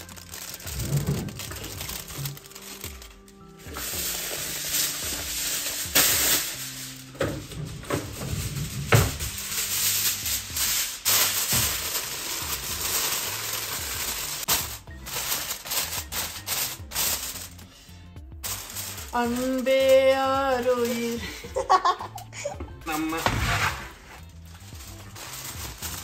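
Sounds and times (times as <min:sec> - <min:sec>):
aluminium foil crinkling: 0:00.0 - 0:17.8, 0:18.4 - 0:22.2, 0:22.8 - 0:26.0
faint background music: 0:00.0 - 0:26.0.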